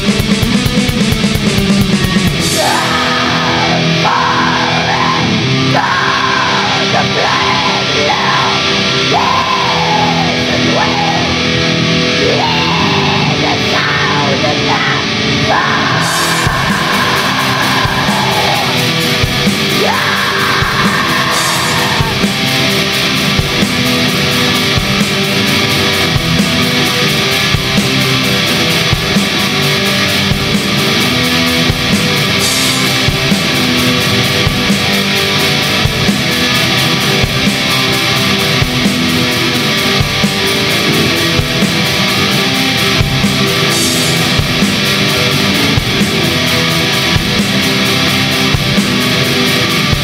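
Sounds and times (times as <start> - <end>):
black metal music: 0.0 - 50.0.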